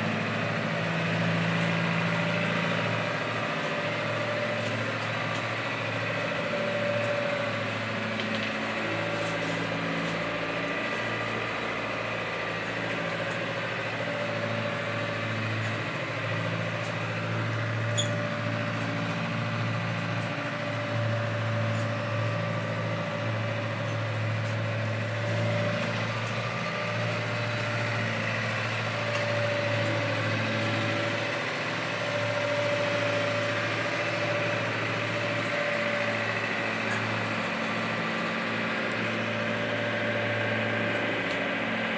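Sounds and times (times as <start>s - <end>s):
boat engine low hum: 0.0s - 41.9s.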